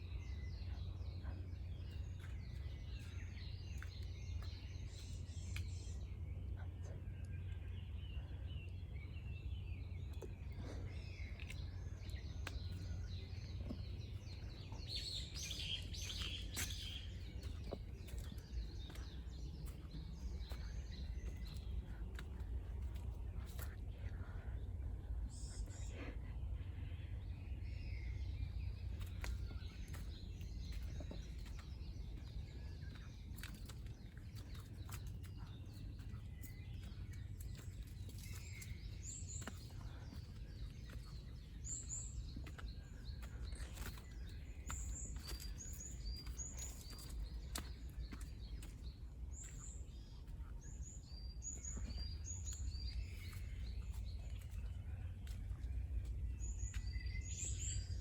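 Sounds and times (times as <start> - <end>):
low wind rumble: 0.0 - 58.0
songbird chirping: 0.0 - 58.0.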